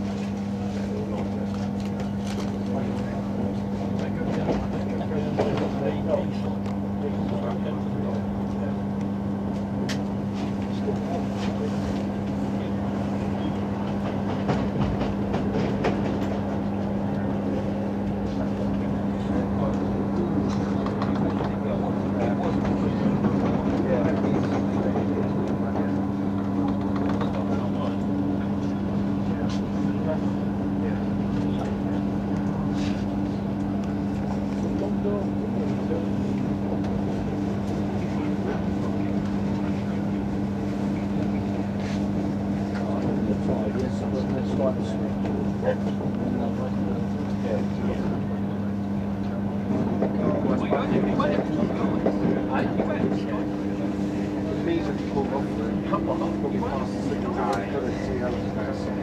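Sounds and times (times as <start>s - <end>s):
train hum and rolling noise: 0.0s - 59.0s.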